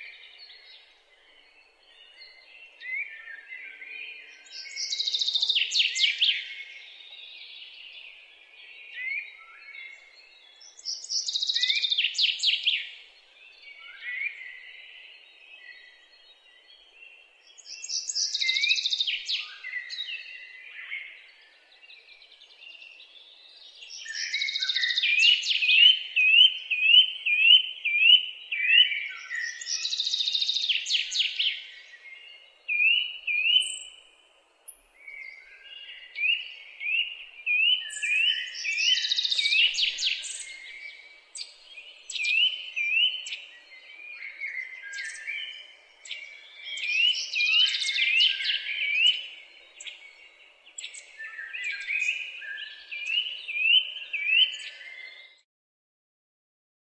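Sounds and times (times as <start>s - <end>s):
chaffinch singing: 0.0s - 8.1s, 8.8s - 16.7s, 17.5s - 55.4s
birds chirping softly: 0.0s - 55.4s.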